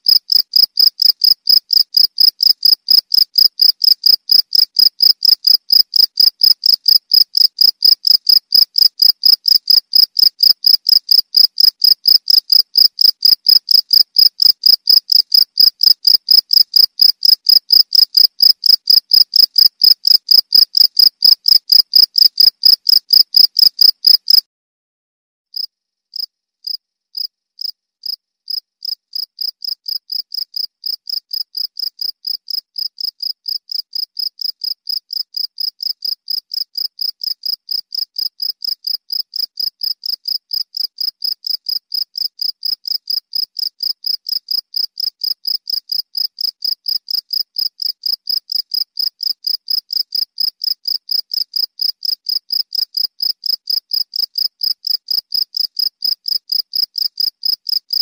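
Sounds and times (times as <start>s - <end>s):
cricket chirping: 0.0s - 24.4s, 25.6s - 57.8s.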